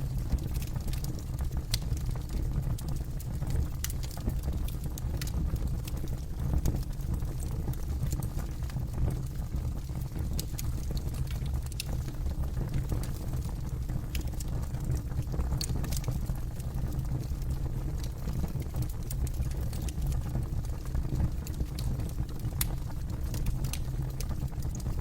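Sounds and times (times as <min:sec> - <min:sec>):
low fire rumble: 0:00.0 - 0:25.0
campfire wood crackling: 0:00.1 - 0:09.0, 0:09.8 - 0:25.0.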